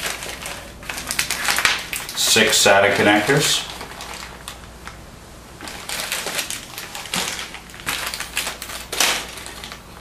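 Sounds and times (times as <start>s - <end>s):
plastic bags crinkling: 0.0s - 5.0s, 5.6s - 10.0s.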